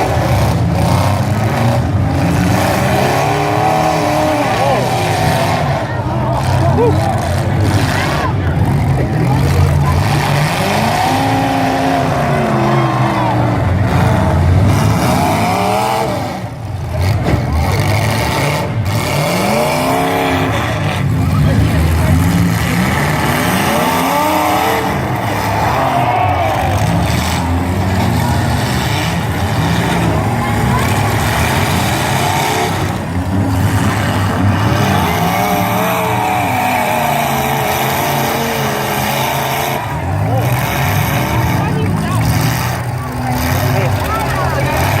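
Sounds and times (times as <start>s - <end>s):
vehicle engines revving: 0.0s - 45.0s.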